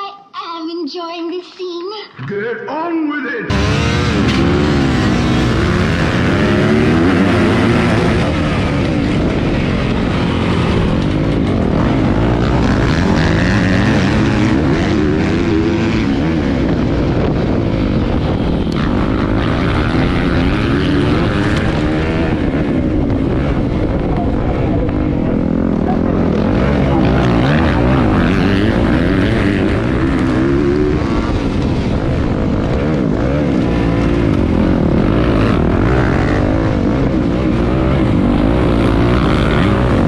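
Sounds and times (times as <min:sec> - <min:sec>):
motocross bike engines revving: 0:03.5 - 0:40.0.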